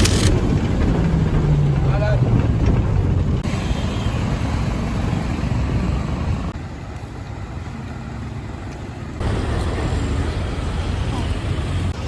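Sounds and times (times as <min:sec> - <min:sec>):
traffic rumbling: 0:00.0 - 0:12.0.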